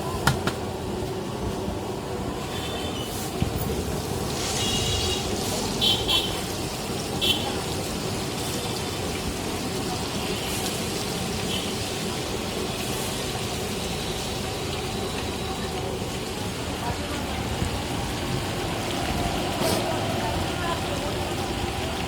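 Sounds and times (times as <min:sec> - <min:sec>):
meat sizzling on grill: 0:03.1 - 0:21.7.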